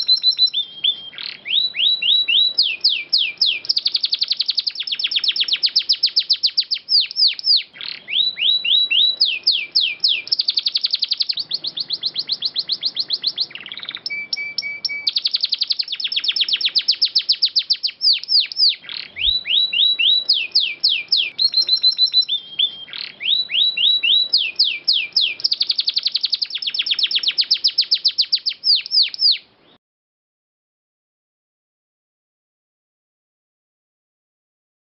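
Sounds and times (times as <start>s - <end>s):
canary singing trills and whistles: 0.0s - 29.8s.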